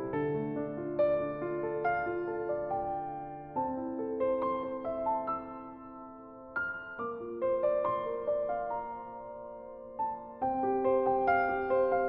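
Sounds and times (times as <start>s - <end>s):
slow piano notes: 0.0s - 12.0s.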